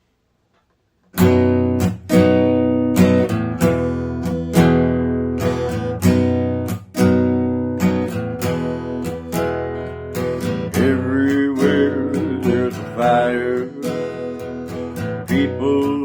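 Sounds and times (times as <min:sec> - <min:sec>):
acoustic guitar strumming: 0:01.1 - 0:16.0.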